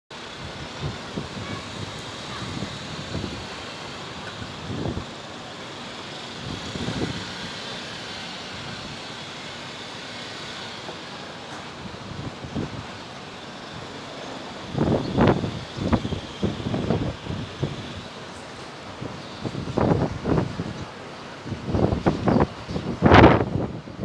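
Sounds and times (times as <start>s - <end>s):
city ambience hiss: 0.1s - 24.0s
wind buffeting microphone: 0.2s - 10.9s, 11.5s - 18.2s, 18.9s - 24.0s.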